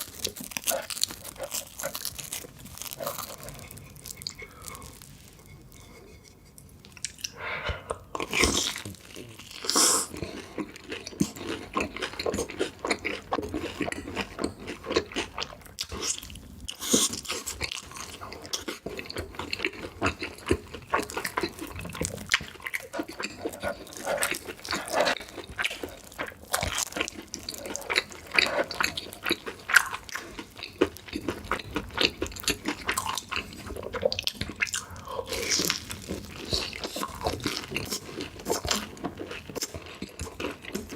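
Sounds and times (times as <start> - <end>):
crunchy food chewing: 0.0 - 5.6, 8.0 - 40.9.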